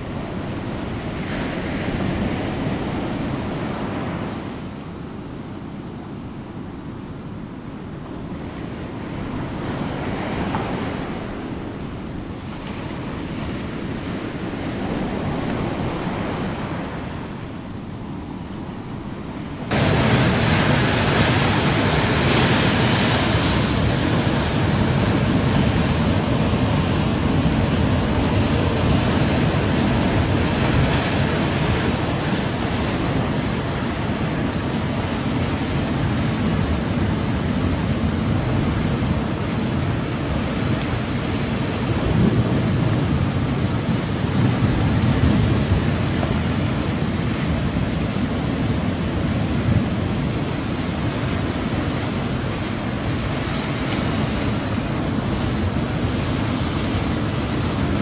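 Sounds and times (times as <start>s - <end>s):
sea surf rushing: 0.0s - 58.0s
wind on microphone: 0.0s - 58.0s.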